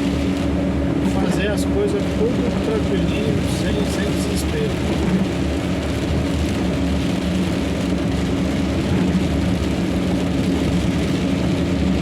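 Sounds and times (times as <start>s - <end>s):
car engine drone: 0.0s - 12.0s
rain on car: 0.0s - 12.0s.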